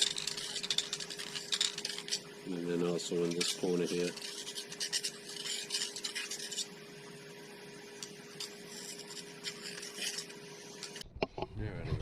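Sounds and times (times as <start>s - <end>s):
hand tool scraping metal: 0.0s - 6.8s, 8.0s - 11.0s
faint steady hum: 0.0s - 12.0s.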